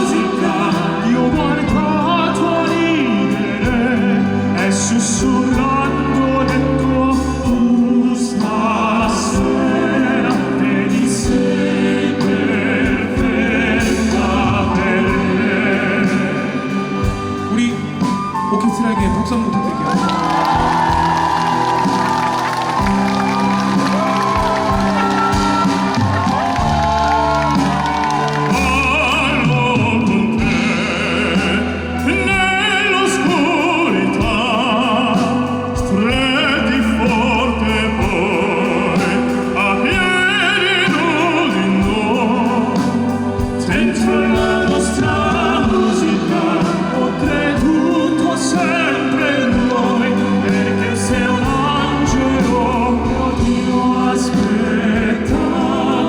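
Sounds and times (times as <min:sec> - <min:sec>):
operatic singing with vibrato: 0:00.0 - 0:56.0
orchestral music: 0:00.0 - 0:56.0.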